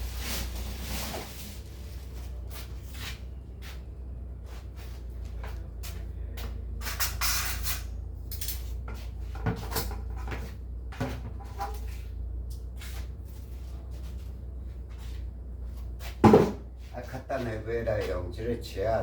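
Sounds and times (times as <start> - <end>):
rustling and scraping: 0.0 - 6.0, 6.7 - 18.2
steady low hum: 0.0 - 19.0.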